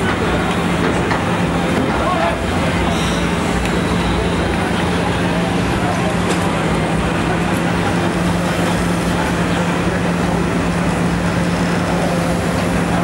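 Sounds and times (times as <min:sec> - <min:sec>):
excavator diesel engine and hydraulics: 0:00.0 - 0:13.0.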